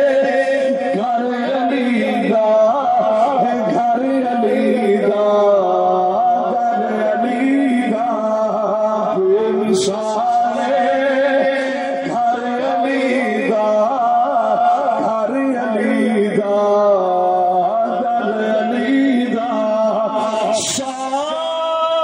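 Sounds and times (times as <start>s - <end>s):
man chanting over loudspeaker: 0.0s - 22.0s.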